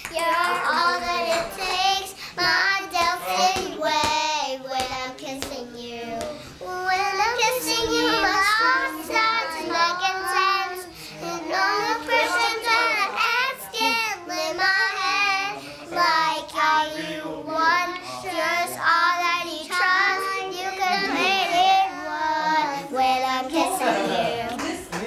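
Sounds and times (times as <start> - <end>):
girls singing a pop song: 0.0 - 25.0.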